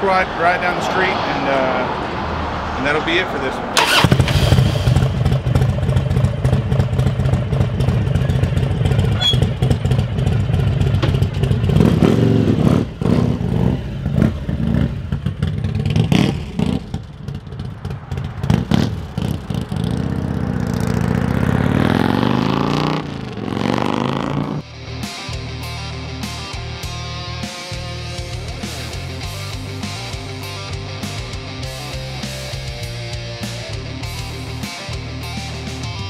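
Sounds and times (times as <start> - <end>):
motorcycle engine idling and accelerating: 0.1 - 36.0.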